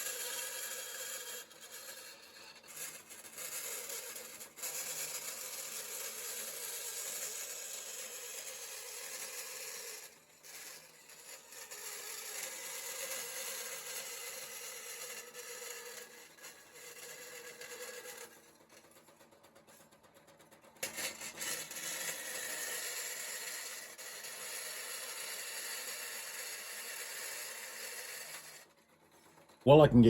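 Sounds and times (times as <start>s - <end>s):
bandsaw cutting sheet steel: 0.0s - 19.9s, 20.6s - 28.9s.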